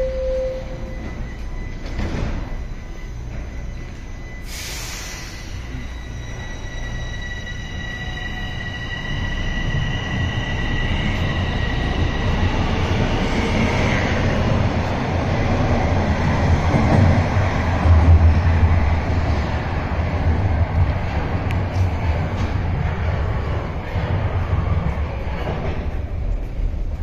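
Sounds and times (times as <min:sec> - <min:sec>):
subway train rumbling: 0:00.0 - 0:27.0.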